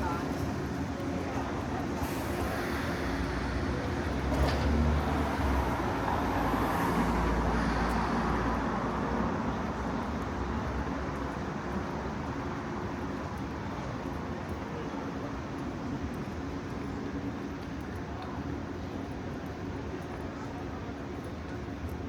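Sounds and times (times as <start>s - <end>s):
steady street noise: 0.0s - 22.0s.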